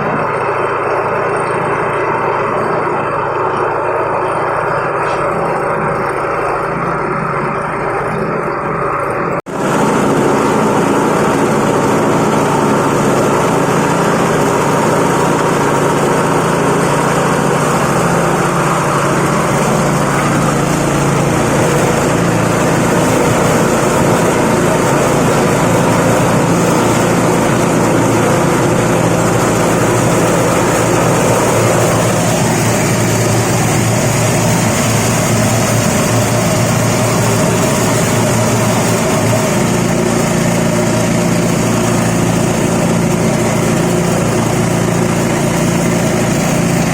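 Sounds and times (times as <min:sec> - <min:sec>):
feed grinder machine running: 0:00.0 - 0:46.9.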